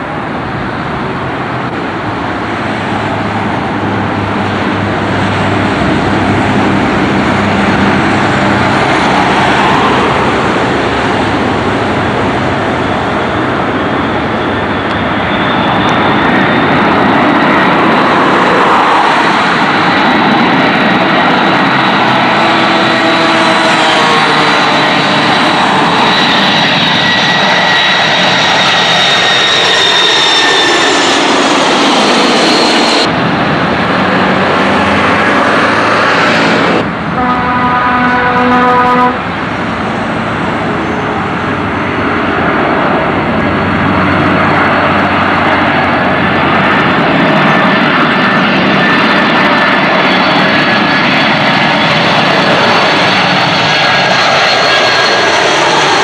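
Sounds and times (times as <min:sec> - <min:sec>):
jet engine rumble: 0:00.0 - 0:56.0
jet engine whine: 0:00.0 - 0:56.0.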